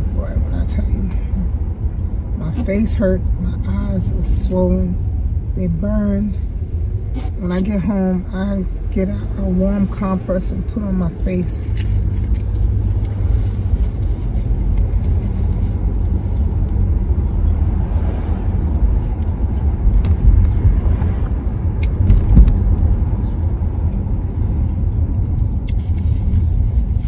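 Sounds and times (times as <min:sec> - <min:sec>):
car cabin road rumble: 0:00.0 - 0:27.0.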